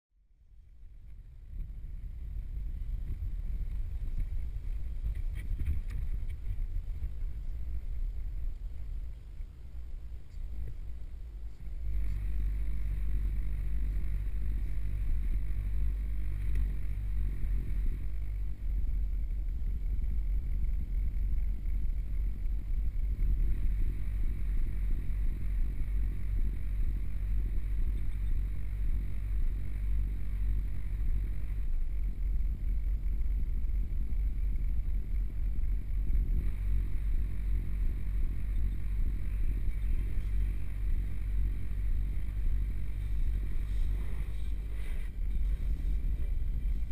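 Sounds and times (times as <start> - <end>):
car wash low rumble: 0.2 - 46.9.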